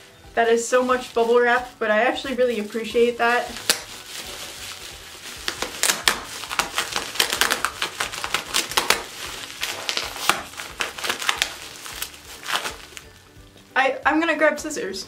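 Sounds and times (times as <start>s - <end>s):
bubble wrap crackling: 0.0s - 13.7s.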